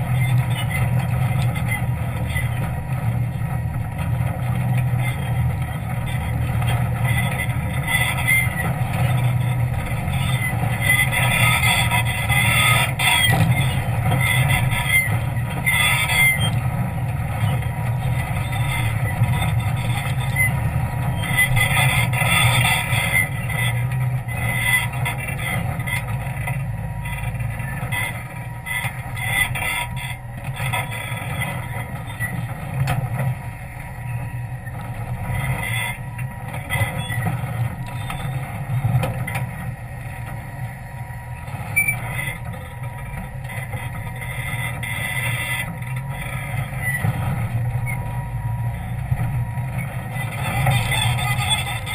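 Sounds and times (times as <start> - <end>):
off-road vehicle engine under load: 0.0 - 51.9.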